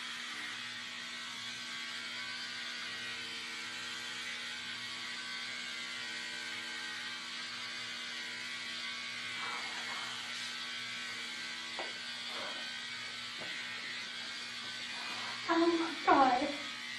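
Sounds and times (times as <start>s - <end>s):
electric hair clippers buzzing: 0.0s - 16.9s.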